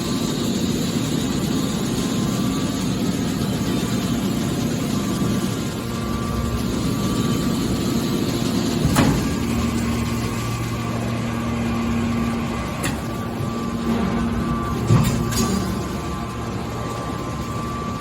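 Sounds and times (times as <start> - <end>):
scrap baler machine hum: 0.0 - 18.0.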